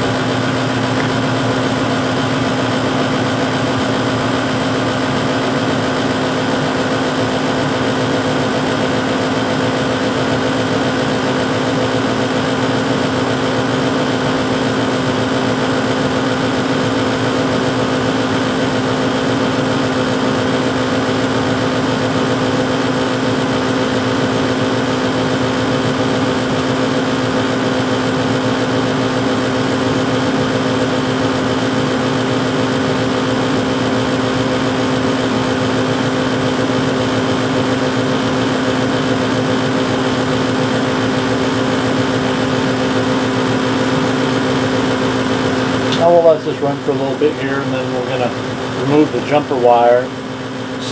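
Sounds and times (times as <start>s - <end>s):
gas furnace humming: 0.0s - 50.9s.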